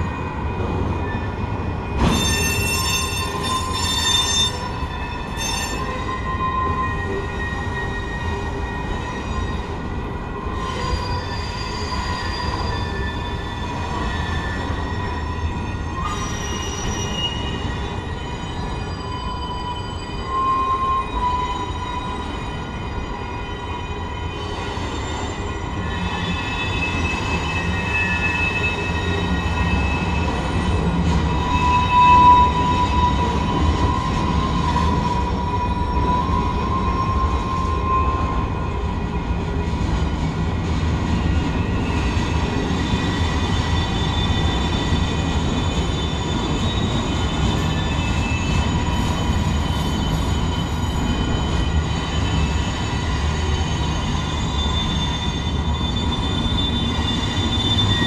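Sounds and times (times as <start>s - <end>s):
train wheels rumbling on rail: 0.0s - 58.0s
high wheel squeal: 0.7s - 39.4s, 41.1s - 58.0s.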